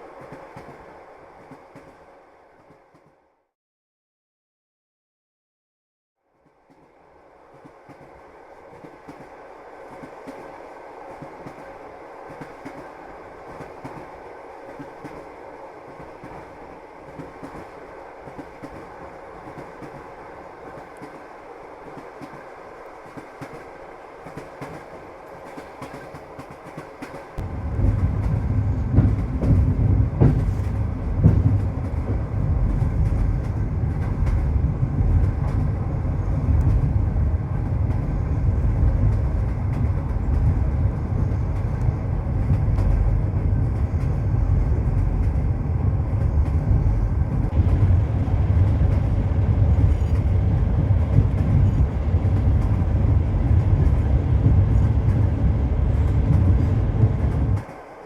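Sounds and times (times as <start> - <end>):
train wheels rumbling on rails: 0.0 - 3.2, 6.4 - 58.0.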